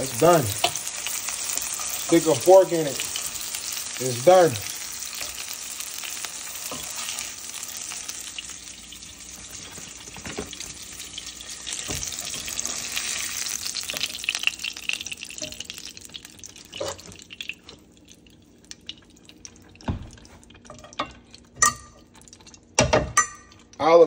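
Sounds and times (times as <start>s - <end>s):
fish sizzling in a skillet: 0.0s - 22.7s.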